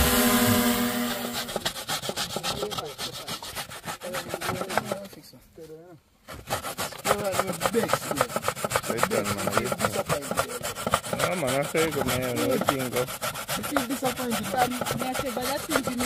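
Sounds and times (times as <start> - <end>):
coconut rasping on metal grater: 0.0 - 5.2, 6.3 - 16.0.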